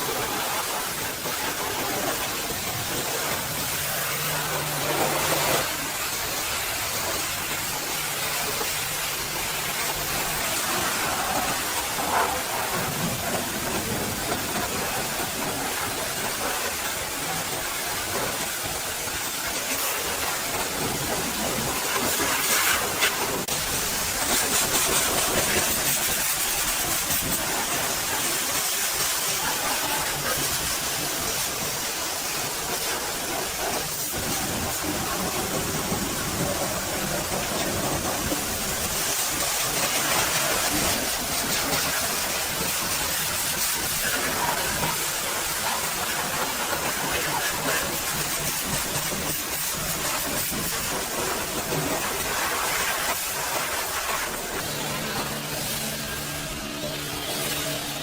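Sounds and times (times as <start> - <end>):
pressure washer spray hissing: 0.0 - 58.0.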